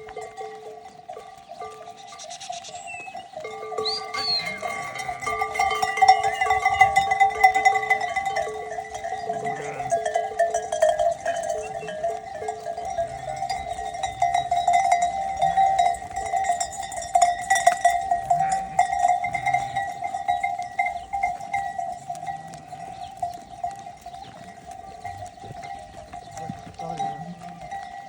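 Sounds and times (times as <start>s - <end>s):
sheep bells clinking: 0.0s - 28.0s
sheep bleating: 3.8s - 16.6s, 17.4s - 28.0s.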